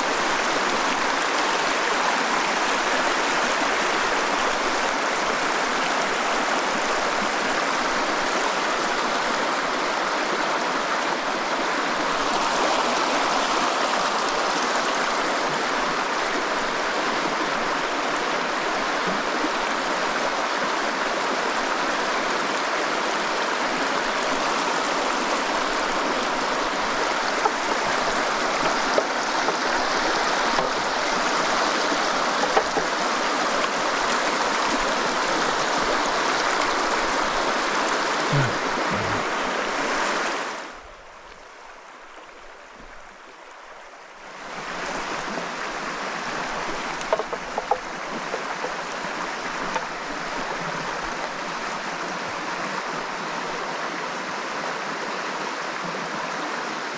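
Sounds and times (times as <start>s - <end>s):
flowing stream water: 0.0s - 56.9s.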